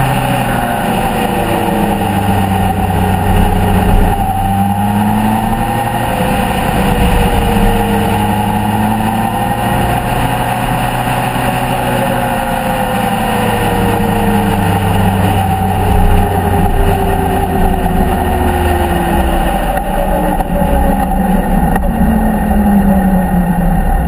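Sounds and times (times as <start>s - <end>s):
motorcycle engine slowing: 0.0s - 24.0s
wind noise: 0.0s - 24.0s.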